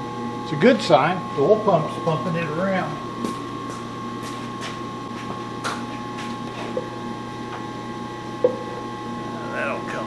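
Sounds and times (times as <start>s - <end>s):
lathe humming and whining: 0.0s - 10.0s.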